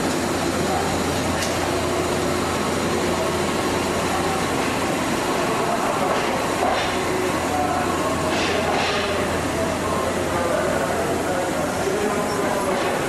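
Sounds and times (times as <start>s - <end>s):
electric train pulling away: 0.0s - 13.0s
train wheels on rails: 0.0s - 13.0s.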